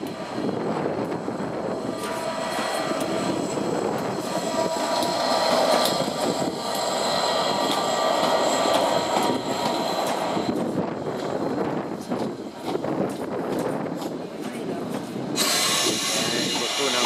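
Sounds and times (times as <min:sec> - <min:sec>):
diesel locomotive engine running: 0:00.0 - 0:17.0
train wheels rumbling on rails: 0:00.0 - 0:17.0.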